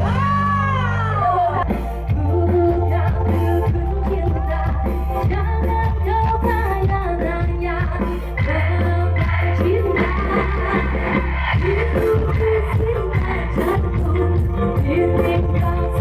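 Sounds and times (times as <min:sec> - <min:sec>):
loud music with singing and bass: 0:00.0 - 0:16.0.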